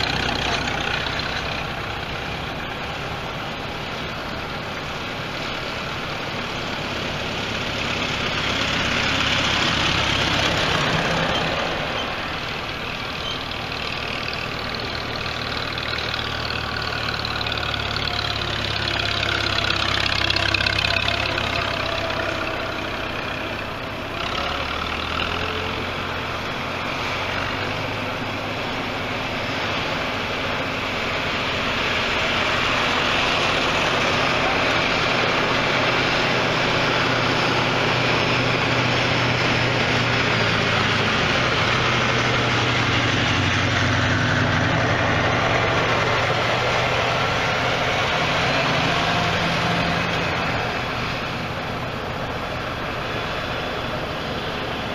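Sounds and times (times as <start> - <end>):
tractor engines passing by: 0.0 - 54.9.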